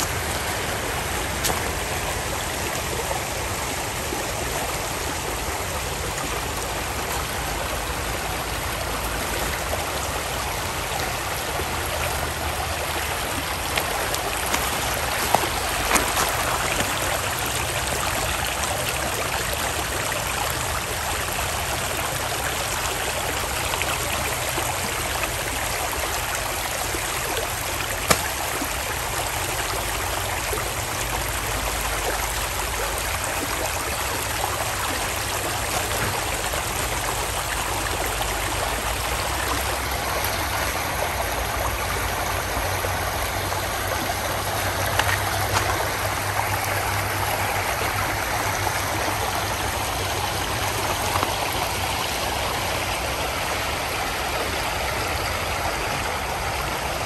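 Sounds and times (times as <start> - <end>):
creek water running over pebbles: 0.0 - 57.0.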